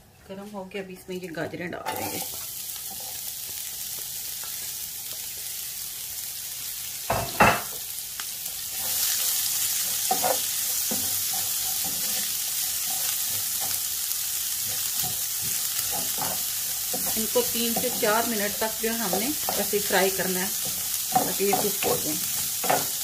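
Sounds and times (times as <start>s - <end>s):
vegetables sizzling in hot oil: 1.7s - 23.0s.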